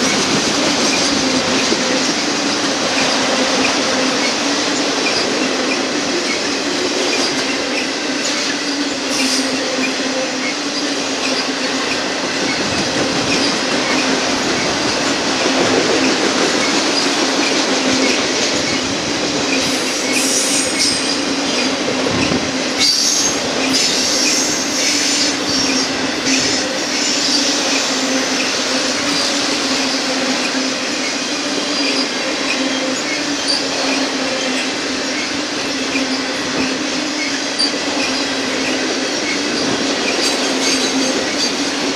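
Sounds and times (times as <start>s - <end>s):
steel wheels squealing on rail: 0.0s - 41.9s.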